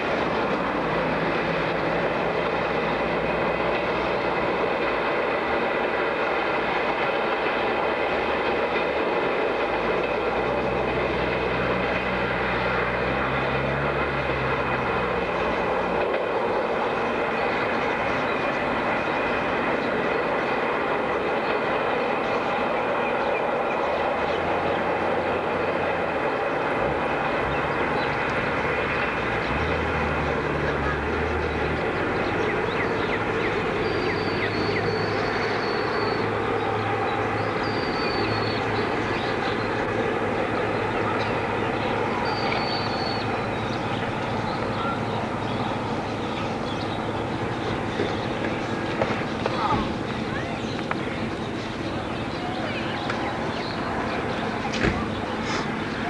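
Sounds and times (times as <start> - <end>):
low engine drone: 0.0 - 56.0
train rumbling: 0.0 - 56.0.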